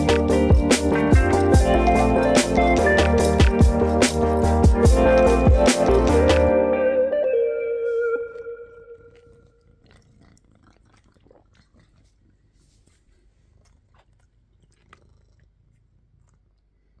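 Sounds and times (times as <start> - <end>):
cat chewing and lip-licking: 0.0 - 6.5, 8.3 - 17.0.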